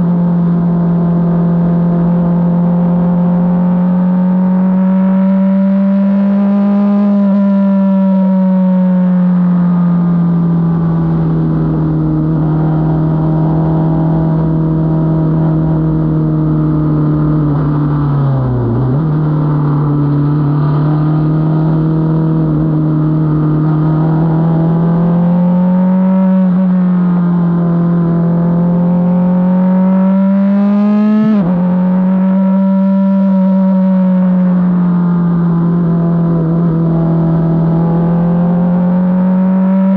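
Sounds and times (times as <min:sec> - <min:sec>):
race car engine running hard: 0:00.0 - 0:39.9
road noise: 0:00.0 - 0:39.9.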